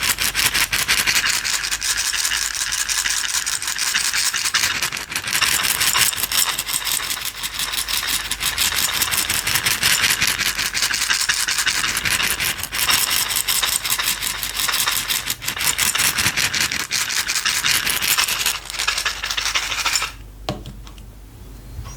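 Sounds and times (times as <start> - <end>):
container of small items rattling: 0.0 - 20.2.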